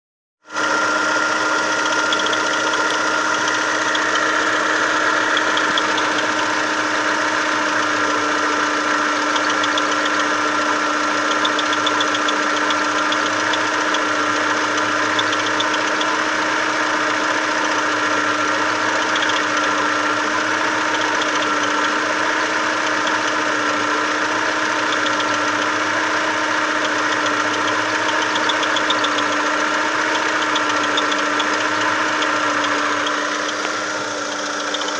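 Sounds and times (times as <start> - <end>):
car engine idling: 0.5 - 34.9.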